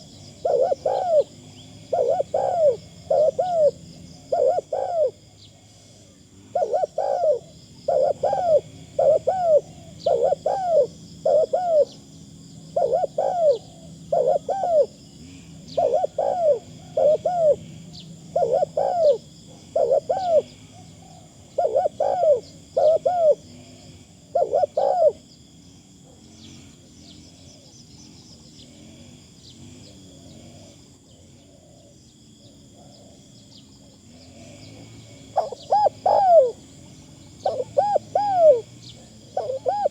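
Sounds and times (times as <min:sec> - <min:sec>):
dove cooing: 0:00.0 - 0:25.3, 0:29.8 - 0:39.9
insects chirring: 0:00.0 - 0:39.9.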